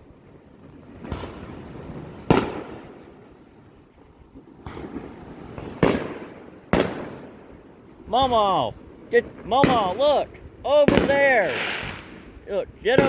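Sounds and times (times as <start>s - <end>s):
fireworks crackling: 0.0s - 13.0s
fireworks booming: 0.6s - 13.0s.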